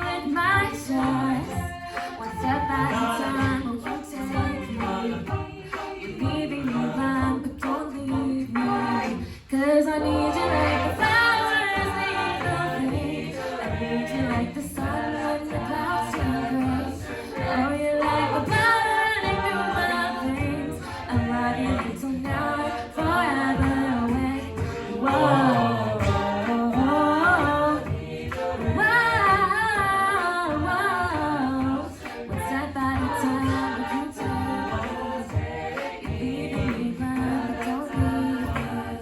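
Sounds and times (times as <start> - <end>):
a cappella group singing: 0.0 - 39.0.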